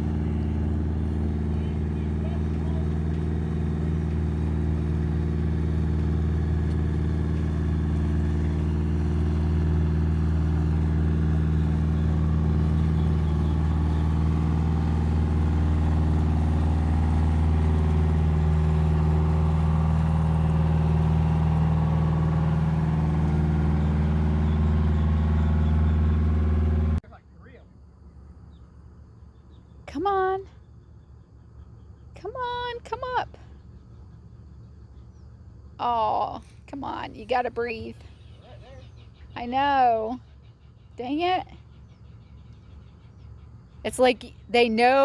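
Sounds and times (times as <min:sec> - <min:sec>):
steamboat engine droning: 0:00.0 - 0:27.5, 0:31.0 - 0:45.0.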